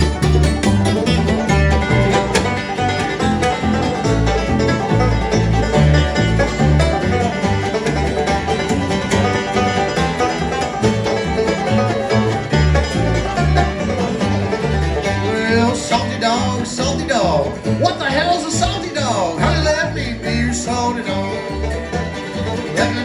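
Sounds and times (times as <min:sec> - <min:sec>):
bluegrass band playing: 0:00.0 - 0:23.0.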